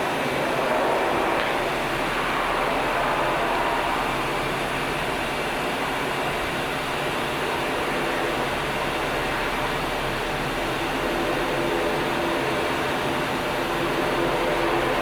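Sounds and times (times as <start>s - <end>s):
jet airliner engines running: 0.0s - 15.0s.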